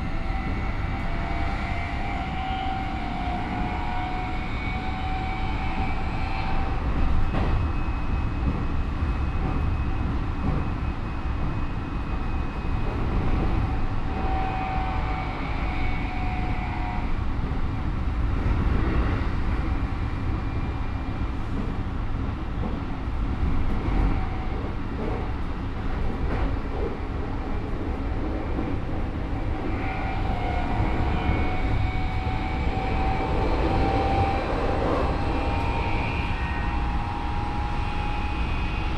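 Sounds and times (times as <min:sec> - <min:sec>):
train wheel-on-rail rumble: 0:00.0 - 0:38.9.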